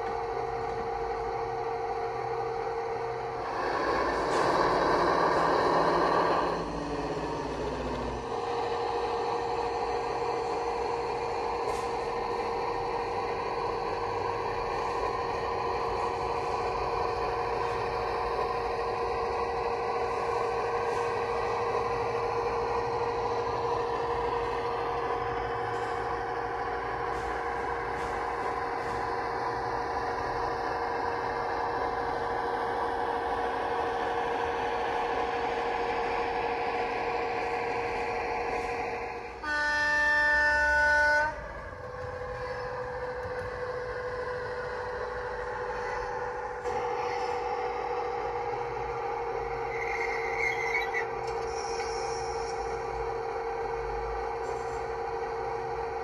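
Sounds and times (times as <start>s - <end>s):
diesel locomotive engines through speaker: 0.0s - 56.0s.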